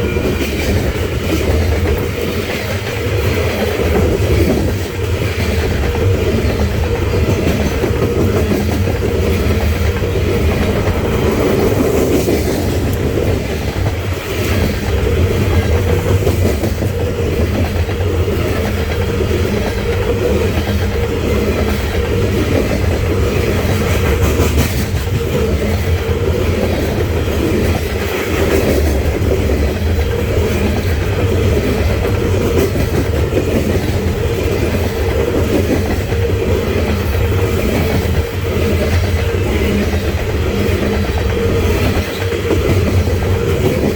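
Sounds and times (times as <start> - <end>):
train wheels rumbling on rail: 0.0 - 43.9
wheels clicking over rail joints: 0.0 - 43.9.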